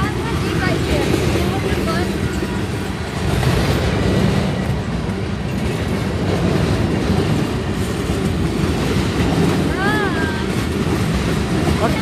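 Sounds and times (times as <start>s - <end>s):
freight cars rumbling on rails: 0.0s - 12.0s.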